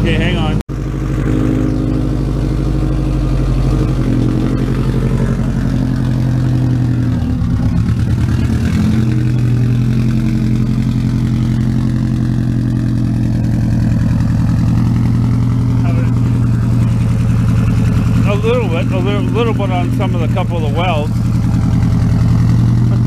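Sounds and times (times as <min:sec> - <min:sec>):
loud car engine idling: 0:00.0 - 0:23.0.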